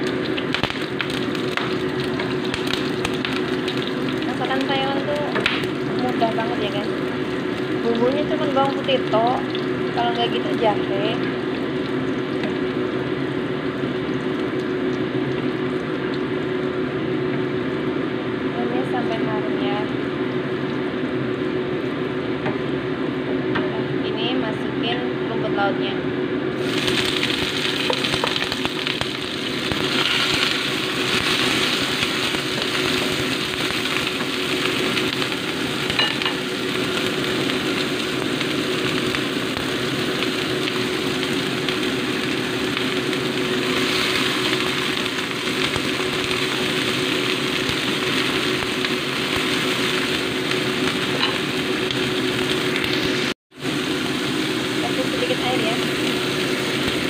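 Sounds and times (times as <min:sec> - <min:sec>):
stir-frying sizzle in oil: 0:00.0 - 0:23.6, 0:26.6 - 0:57.0
steady hum: 0:00.0 - 0:57.0.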